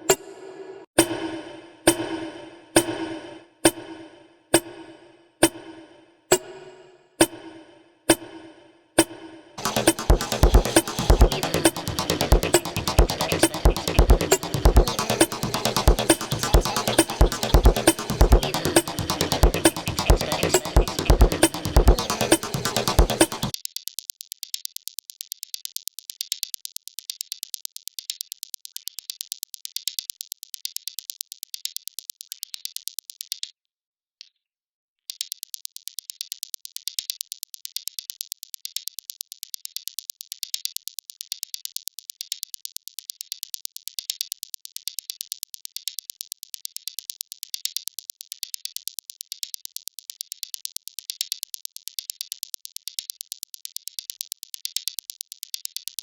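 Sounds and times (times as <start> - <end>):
electronic hi-hat ticks: 0.0 - 33.4, 35.1 - 56.0.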